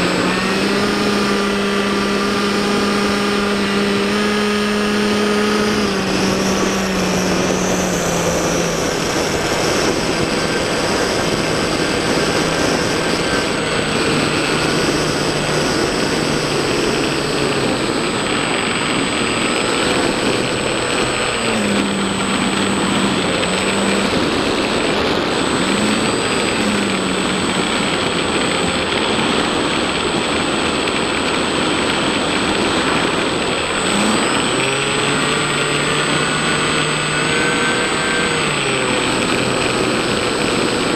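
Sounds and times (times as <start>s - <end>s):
high whine: 0.0s - 40.9s
model plane motor droning: 0.0s - 40.9s
wind rushing over microphone: 0.0s - 40.9s.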